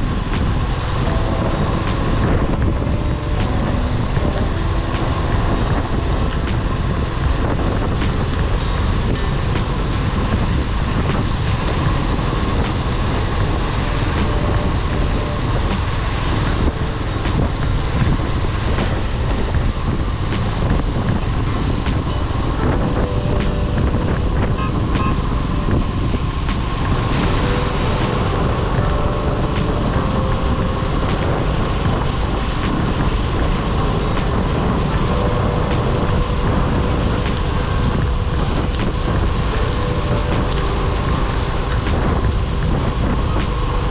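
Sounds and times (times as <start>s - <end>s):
city street traffic rumble: 0.0s - 43.9s.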